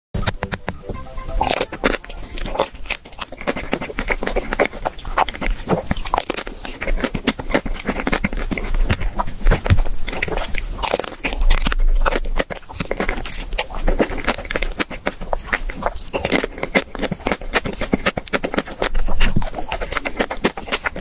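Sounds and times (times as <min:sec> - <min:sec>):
ice cream shell crunching: 0:00.2 - 0:21.0
wet chewing: 0:00.2 - 0:21.0.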